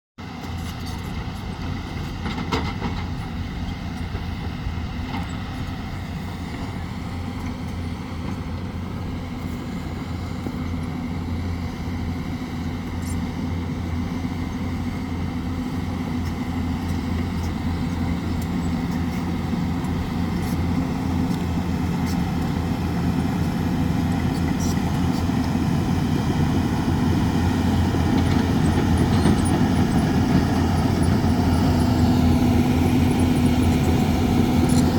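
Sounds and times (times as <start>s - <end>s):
excavator diesel engine under load: 0.3s - 34.9s.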